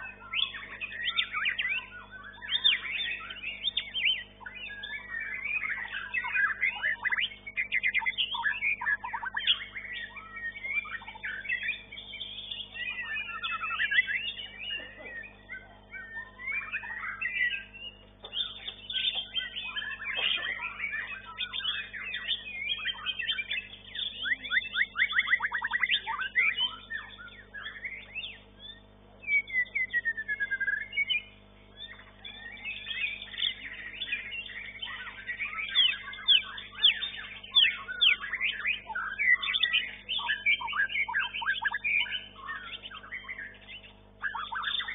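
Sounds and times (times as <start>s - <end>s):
bird singing whistles and trills: 0.0s - 44.9s.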